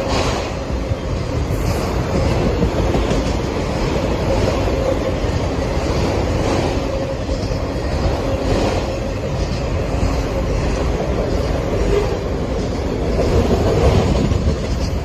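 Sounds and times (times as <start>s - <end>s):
freight cars rumbling on rails: 0.0s - 15.0s.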